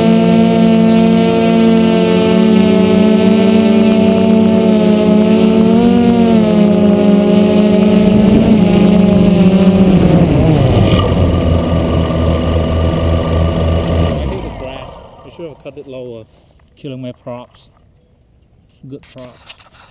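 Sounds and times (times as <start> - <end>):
drone propellers buzzing: 0.0 - 16.1.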